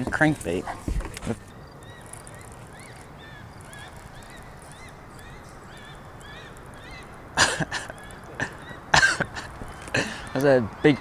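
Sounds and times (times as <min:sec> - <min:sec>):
waterbird calling: 0:00.0 - 0:11.0.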